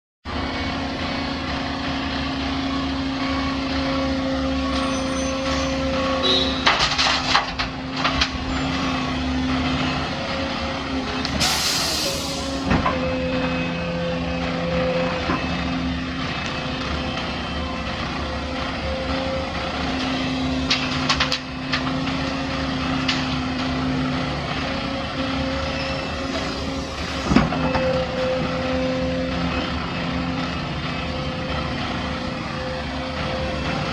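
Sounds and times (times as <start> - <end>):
diesel machinery engine running: 0.3 - 33.9.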